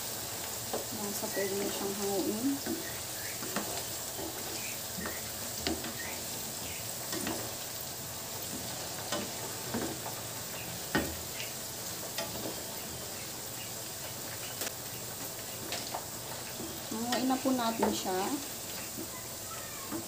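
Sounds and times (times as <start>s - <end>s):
potatoes sizzling in oil: 0.0s - 20.0s.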